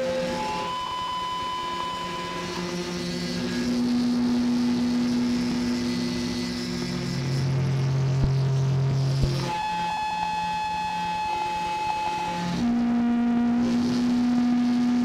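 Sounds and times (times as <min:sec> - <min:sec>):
electric guitar drone: 0:00.0 - 0:15.0.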